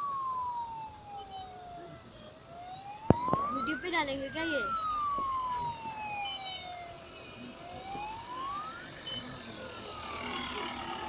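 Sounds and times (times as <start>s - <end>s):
road traffic rumble: 0.0s - 11.0s
siren wailing: 0.0s - 11.0s.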